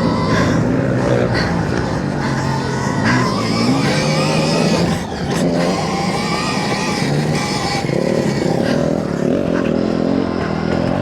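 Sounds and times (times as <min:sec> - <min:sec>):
electric motor whining: 0:00.0 - 0:11.0
motorbike riding noise: 0:00.0 - 0:11.0.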